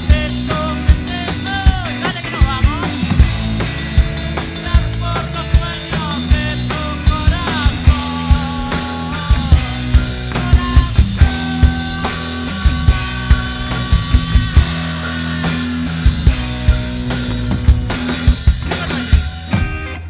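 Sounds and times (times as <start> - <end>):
bass: 0.0 - 20.0
drum kit: 0.0 - 20.0
guitar with bending notes: 0.0 - 20.0.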